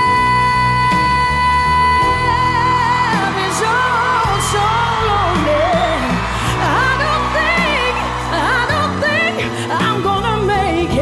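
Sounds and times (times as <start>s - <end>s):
woman singing with vibrato: 0.0s - 11.0s.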